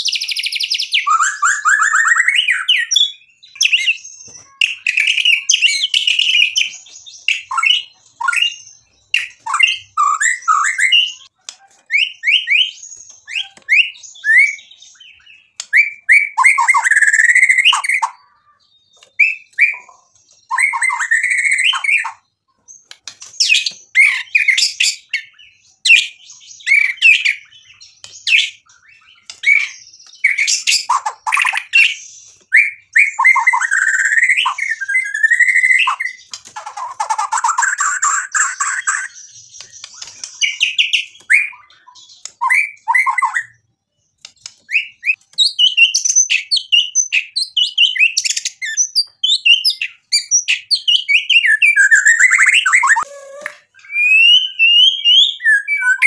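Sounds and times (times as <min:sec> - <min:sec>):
bird singing whistles and rattles: 0:00.0 - 0:18.2, 0:18.8 - 0:56.0.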